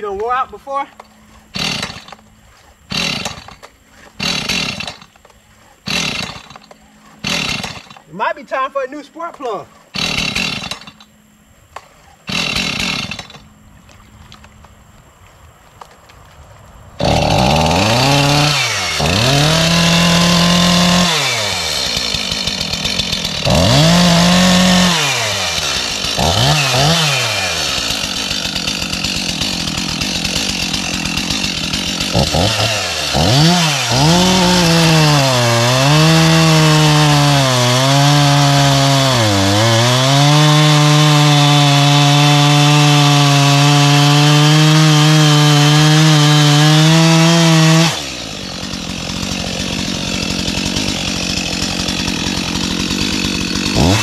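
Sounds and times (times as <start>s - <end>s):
chainsaw revving: 0.7s - 8.1s, 9.3s - 11.2s, 12.2s - 13.6s, 17.0s - 54.0s.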